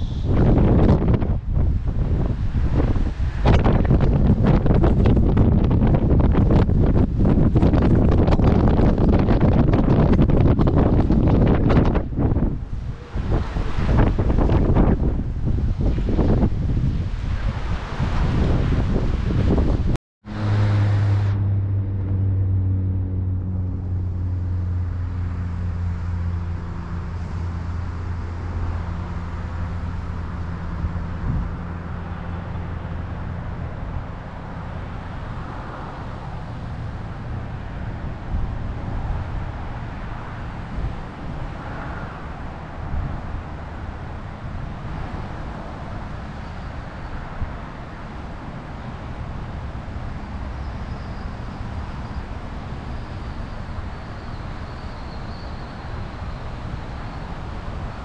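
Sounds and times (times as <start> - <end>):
engine hum: 0.0 - 58.0
vehicle rumble: 0.0 - 58.0.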